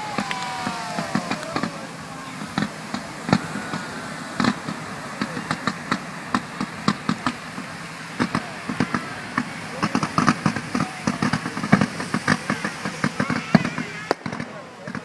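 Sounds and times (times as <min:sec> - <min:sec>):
firework whistle rising: 0:00.0 - 0:14.9
fireworks popping and banging: 0:00.0 - 0:15.0.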